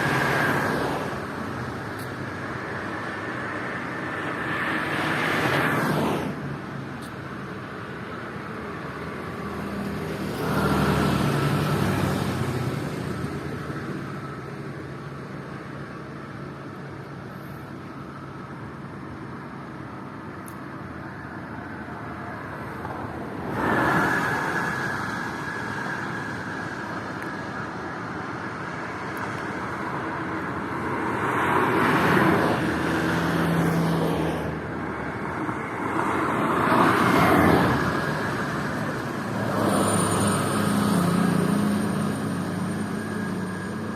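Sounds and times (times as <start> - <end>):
steady traffic rush: 0.0 - 43.9
vehicles passing at speed: 0.0 - 43.9.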